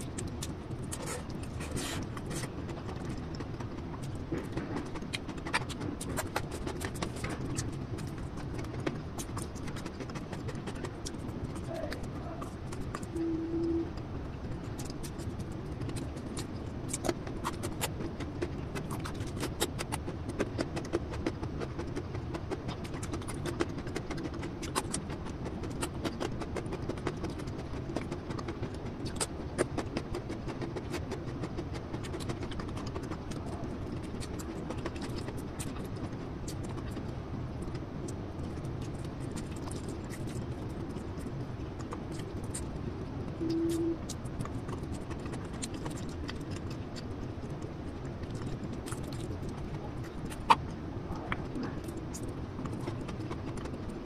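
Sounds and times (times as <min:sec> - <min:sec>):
chewing with wet mouth clicks: 0:00.0 - 0:54.0.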